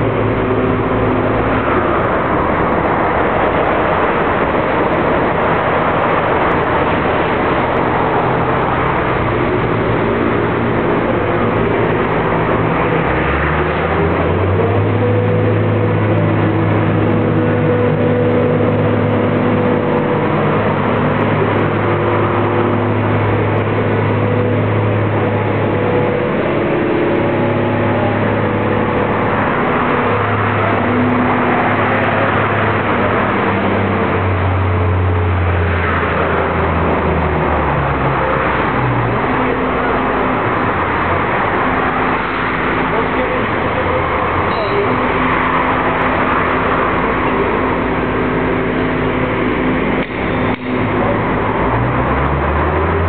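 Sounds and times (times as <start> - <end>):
heavy engine running: 0.0 - 53.0.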